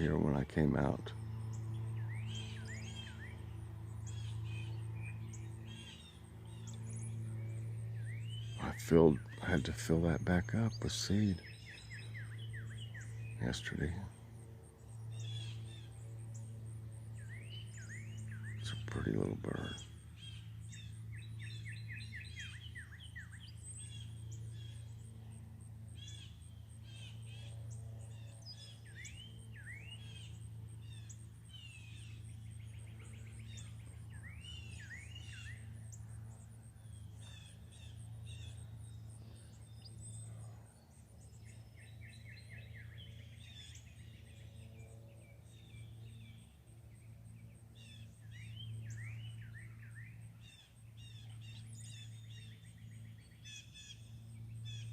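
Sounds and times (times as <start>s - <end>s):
songbirds chirping: 0.0s - 54.9s
steady low hum: 0.0s - 54.9s.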